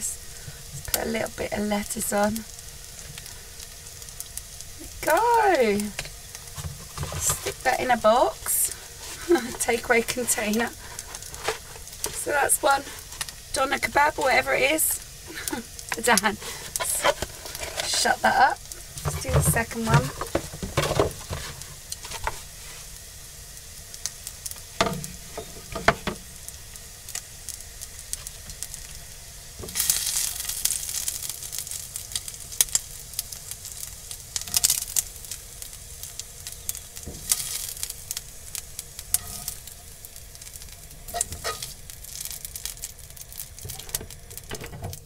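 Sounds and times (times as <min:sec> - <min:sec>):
chicken sizzling in a frying pan: 0:00.0 - 0:45.0.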